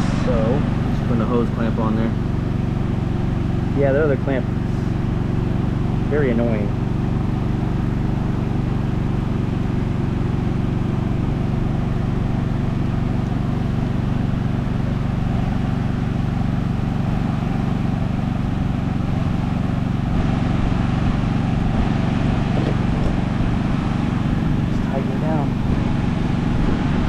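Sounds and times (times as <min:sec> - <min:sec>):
machine drone: 0:00.0 - 0:27.0.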